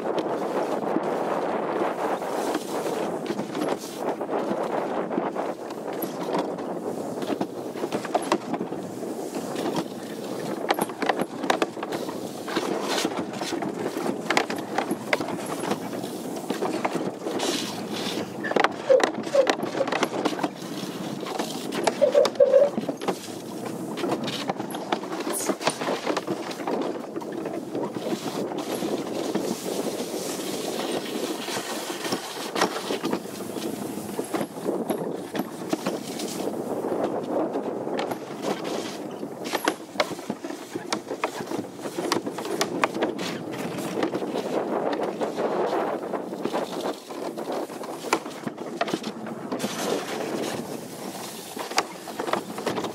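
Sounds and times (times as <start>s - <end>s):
sled knocking and rattling: 0.0s - 52.9s
sled scraping down a trough track: 0.0s - 52.9s.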